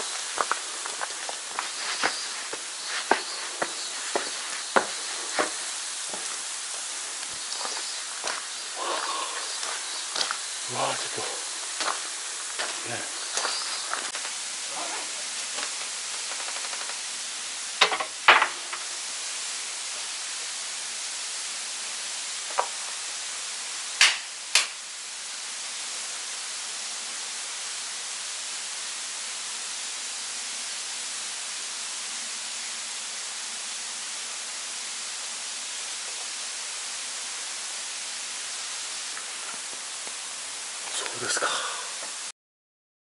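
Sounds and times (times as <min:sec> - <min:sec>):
waterfall rushing: 0:00.0 - 0:42.3.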